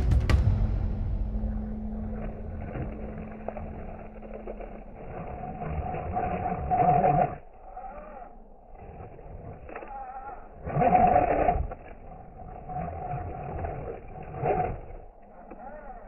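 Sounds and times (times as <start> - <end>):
electric motor whining: 1.3 - 16.0.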